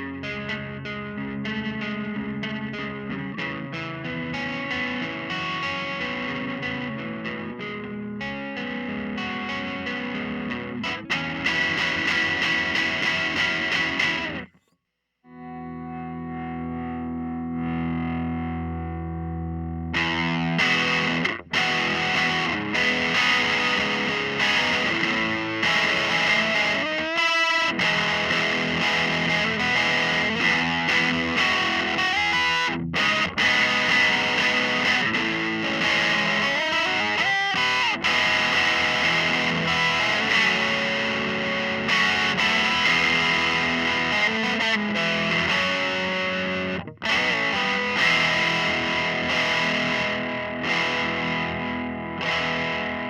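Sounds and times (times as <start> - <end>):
electric guitar chords and notes: 0.0 - 14.6, 15.3 - 53.0.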